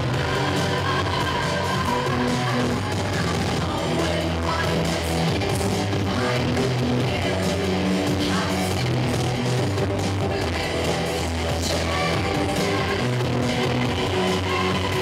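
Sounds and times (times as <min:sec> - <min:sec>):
live rock music: 0:00.0 - 0:15.0.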